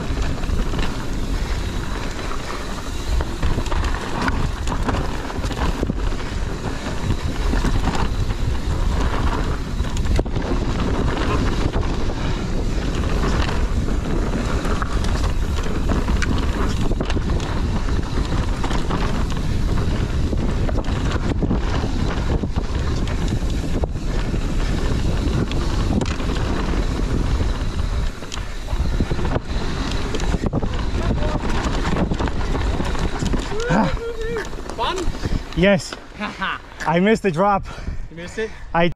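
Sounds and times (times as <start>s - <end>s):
tyres rolling over dirt: 0.0s - 37.2s
wind buffeting microphone: 0.0s - 38.9s.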